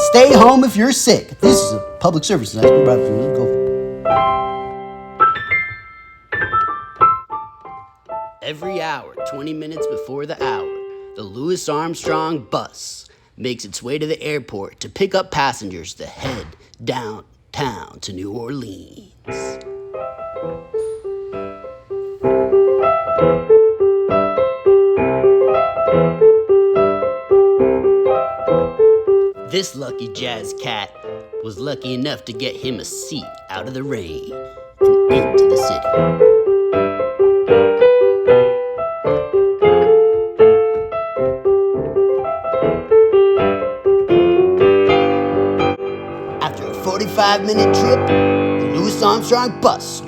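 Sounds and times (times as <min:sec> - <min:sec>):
piano music: 0:00.0 - 0:12.7, 0:19.3 - 0:50.0.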